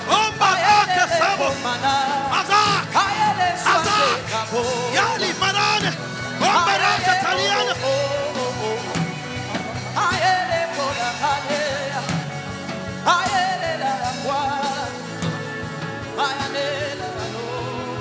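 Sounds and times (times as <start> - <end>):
person singing: 0.0 - 12.4, 13.0 - 15.2, 16.0 - 18.0
keyboard and bass with a beat: 0.0 - 18.0.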